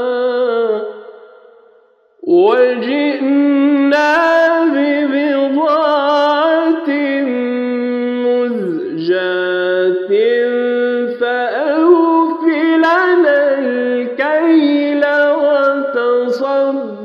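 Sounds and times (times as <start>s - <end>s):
man chanting recitation: 2.2s - 17.0s.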